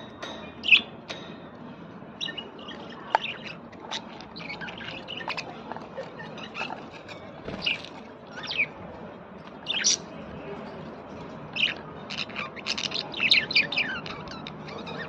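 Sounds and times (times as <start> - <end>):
small birds chirping: 0.6 - 1.0, 2.1 - 15.0.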